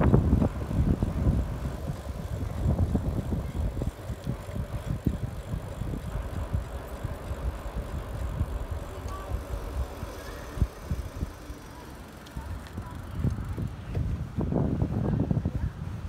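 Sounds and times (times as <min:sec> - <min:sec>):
wheels rolling on asphalt: 0:00.0 - 0:16.0
wind buffeting microphone: 0:00.0 - 0:16.0.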